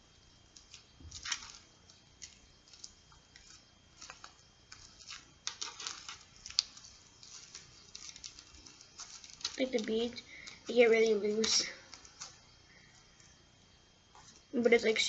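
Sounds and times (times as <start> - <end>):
slime squishing with bead crackles: 0.4 - 12.6.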